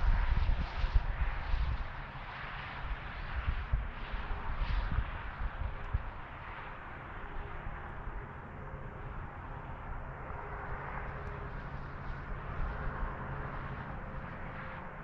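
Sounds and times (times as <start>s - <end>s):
highway traffic rush: 0.0s - 15.0s.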